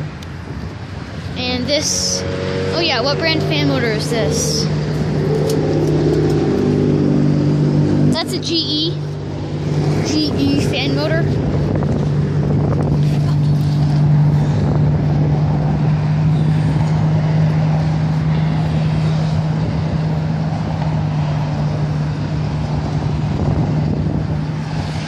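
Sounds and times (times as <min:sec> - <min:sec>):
constant rushing noise: 0:00.0 - 0:25.0.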